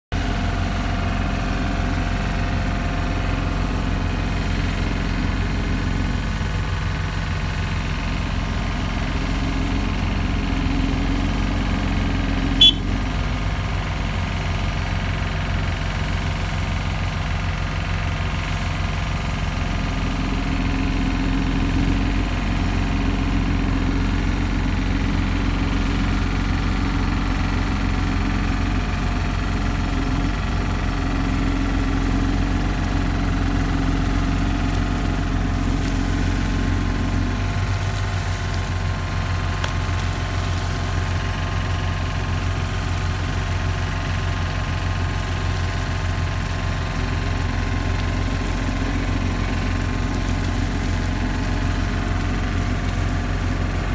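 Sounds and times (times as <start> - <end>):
heavy engine running: 0.1 - 53.9.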